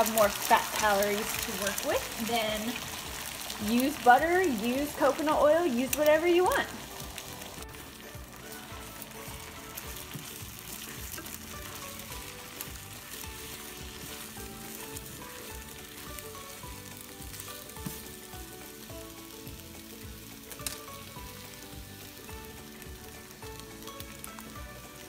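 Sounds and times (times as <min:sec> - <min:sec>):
egg sizzling in frying pan: 0:00.0 - 0:25.0
spatula stirring in pan: 0:04.8 - 0:25.0.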